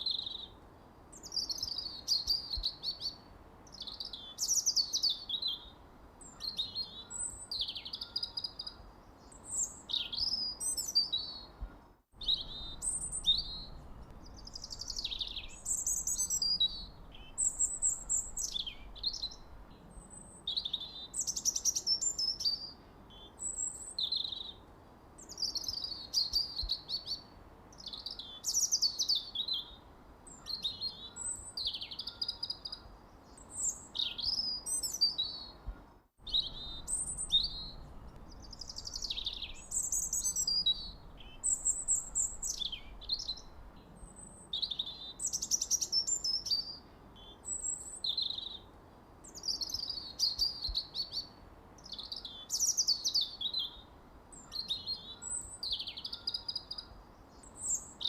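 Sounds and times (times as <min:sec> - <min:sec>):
faint background hiss: 0:00.0 - 0:58.0
songbirds chirping: 0:00.0 - 0:58.0.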